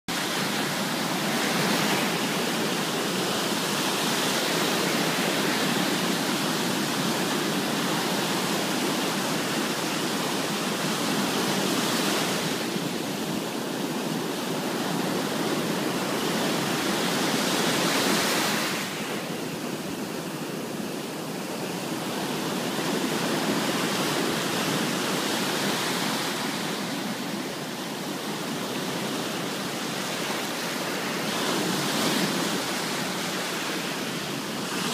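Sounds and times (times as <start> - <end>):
ocean surf on a beach: 0.1 - 34.9.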